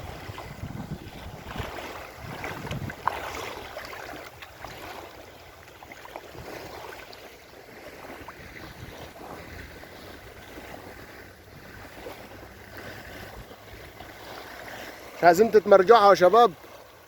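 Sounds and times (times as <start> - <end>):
wind buffeting microphone: 0.0 - 7.0, 7.6 - 15.1
sea waves: 0.0 - 17.0.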